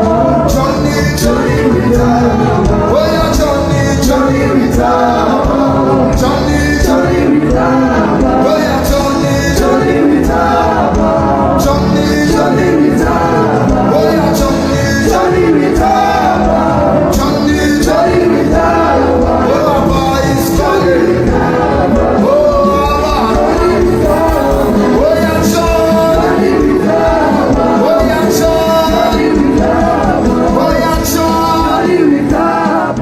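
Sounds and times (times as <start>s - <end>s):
gospel singing with band: 0.0s - 33.0s
percussion hits: 0.0s - 33.0s.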